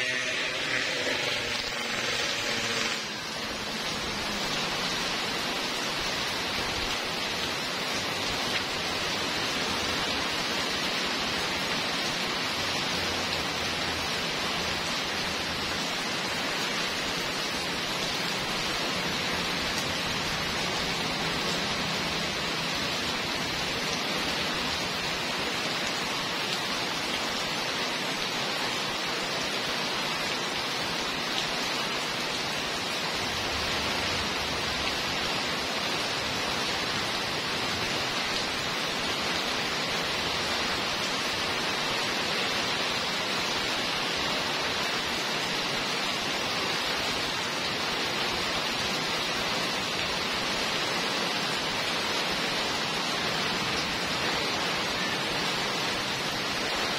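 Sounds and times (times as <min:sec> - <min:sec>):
heavy rain on paved street: 0:00.0 - 0:56.9.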